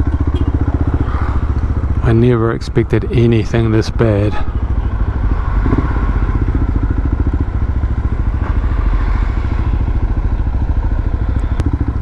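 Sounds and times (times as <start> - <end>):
single-cylinder motorcycle engine: 0.0 - 12.0.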